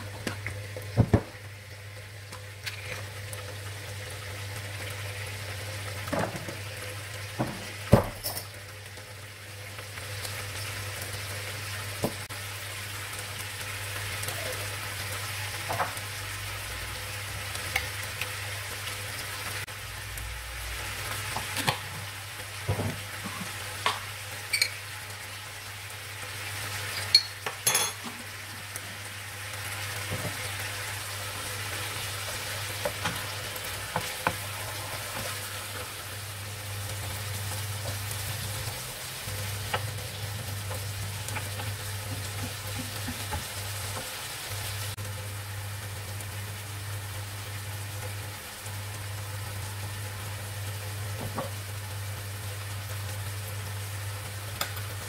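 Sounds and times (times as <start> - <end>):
chicken sizzling in a frying pan: 0.0 - 55.0.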